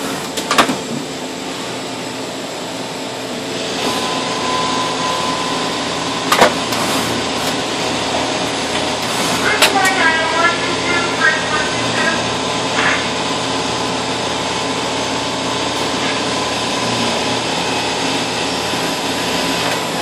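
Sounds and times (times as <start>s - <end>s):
lathe machine hum and hiss: 0.0s - 20.0s
steady machine whine: 0.0s - 20.0s.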